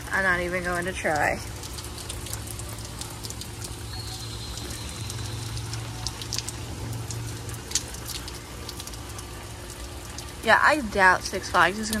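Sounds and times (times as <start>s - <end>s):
heavy rain falling: 0.0s - 12.0s
low steady hum: 0.0s - 12.0s
raindrops ticking close by: 0.0s - 12.0s.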